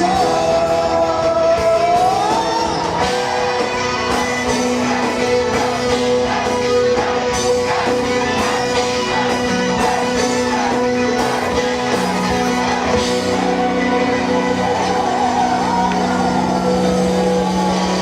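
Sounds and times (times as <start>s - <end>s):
lead guitar line bending: 0.0s - 18.0s
live rock band playing: 0.0s - 18.0s.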